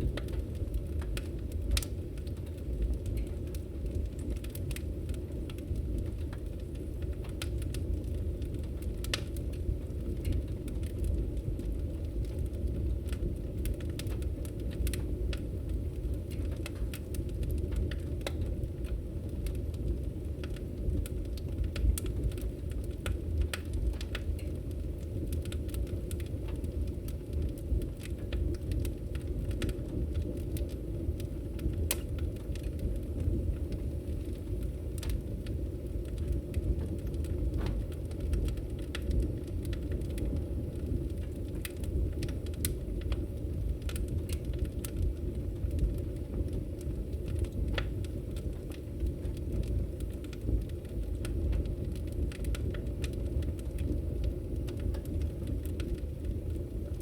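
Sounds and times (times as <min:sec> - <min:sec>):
fire crackling and popping: 0:00.0 - 0:57.0
low rumble of fire: 0:00.0 - 0:57.0.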